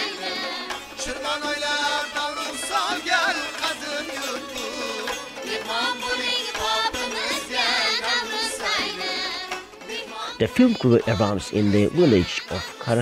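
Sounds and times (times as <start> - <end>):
folk music: 0.0 - 13.0
person singing ornamented melody: 0.0 - 13.0.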